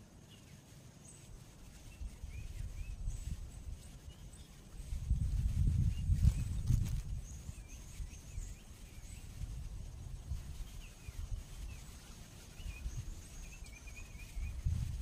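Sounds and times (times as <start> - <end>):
wind on microphone: 1.4 - 15.0.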